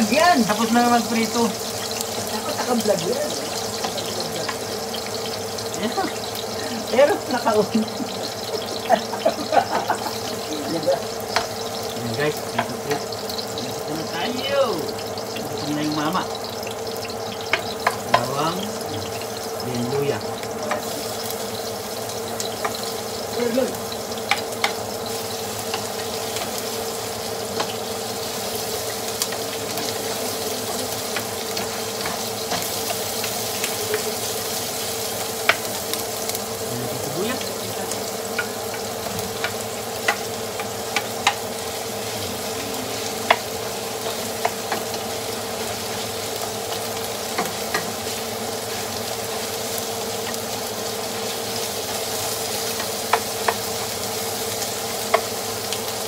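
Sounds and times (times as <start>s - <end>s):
garlic sizzling in hot oil: 0.0s - 56.0s.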